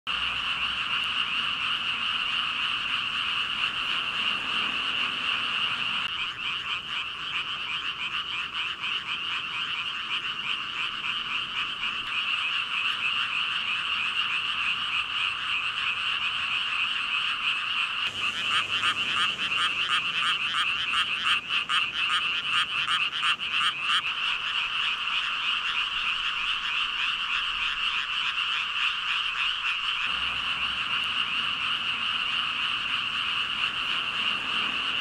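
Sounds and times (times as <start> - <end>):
chorus of frogs croaking: 0.1 - 35.0.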